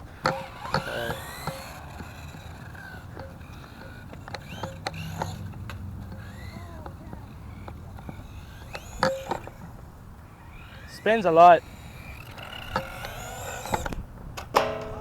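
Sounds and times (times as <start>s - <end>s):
electric motor whine: 0.0s - 15.0s
toy truck clicks and knocks: 0.0s - 15.0s.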